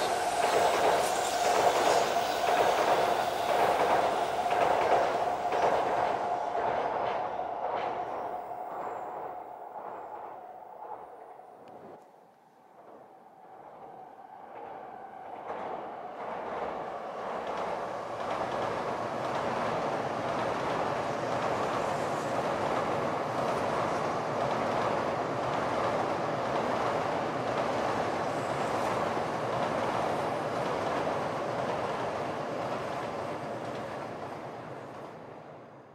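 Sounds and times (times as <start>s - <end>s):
train passing at speed: 0.0s - 35.9s.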